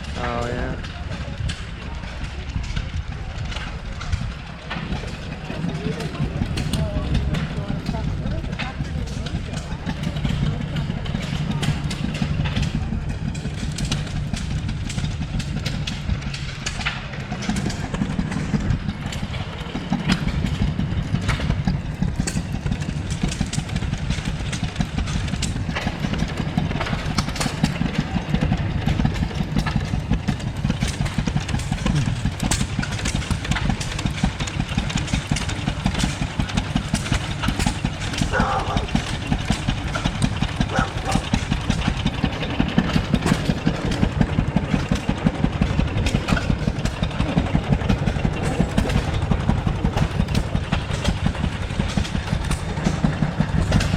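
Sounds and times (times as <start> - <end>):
stationary engines chugging: 0.0 - 53.9
sharp clicks and knocks: 0.8 - 53.9.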